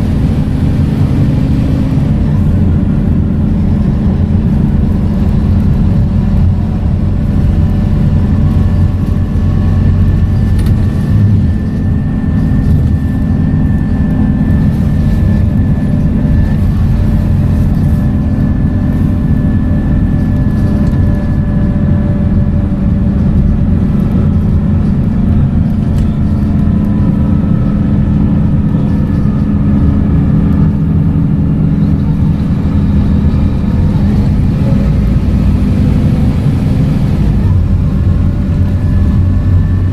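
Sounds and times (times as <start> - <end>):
low diesel engine drone: 0.0 - 39.9.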